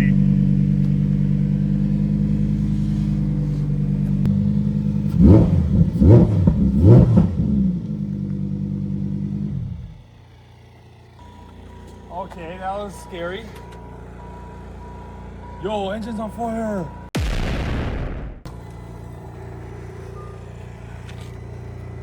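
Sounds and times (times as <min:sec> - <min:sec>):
engine revving: 0:00.0 - 0:17.1, 0:18.4 - 0:22.0
sports car engine idling: 0:00.0 - 0:17.1, 0:18.5 - 0:22.0.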